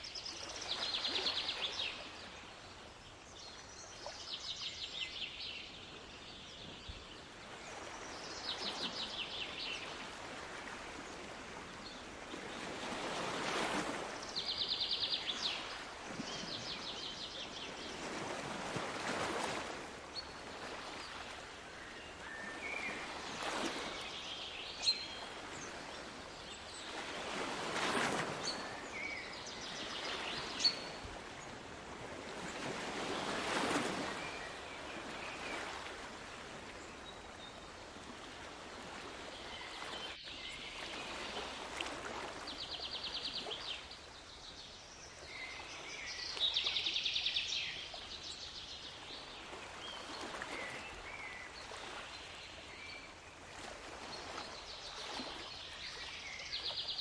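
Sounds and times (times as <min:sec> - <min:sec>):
sea waves washing ashore: 0:07.2 - 0:44.3, 0:44.9 - 0:56.9.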